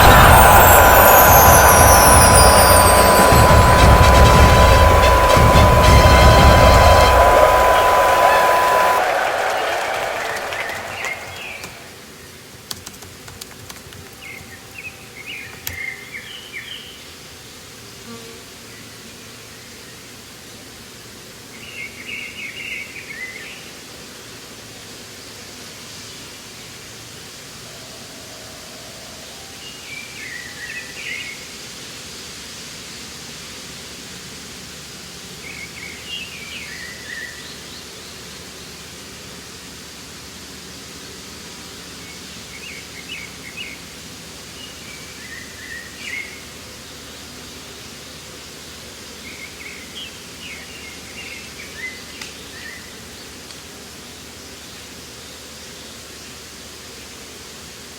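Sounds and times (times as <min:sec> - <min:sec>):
steady outdoor noise bed: 0:00.0 - 0:18.0, 0:18.6 - 0:57.9.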